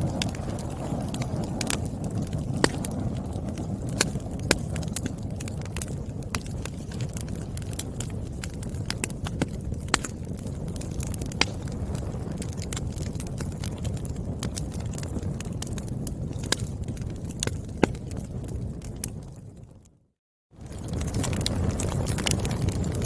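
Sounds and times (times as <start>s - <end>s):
firewood crackling and popping: 0.0s - 23.0s
wood fire rumbling: 0.0s - 23.0s.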